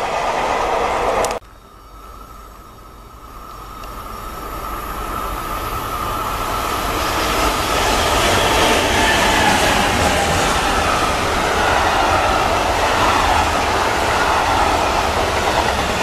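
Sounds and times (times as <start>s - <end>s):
freight train approaching: 0.0s - 16.0s
thin steady whine: 0.0s - 16.0s.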